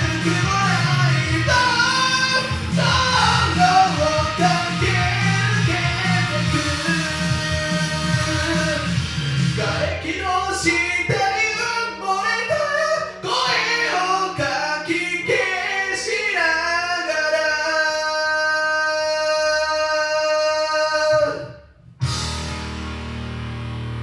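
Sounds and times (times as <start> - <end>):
person singing: 0.0 - 21.7
karaoke backing track: 0.0 - 24.0.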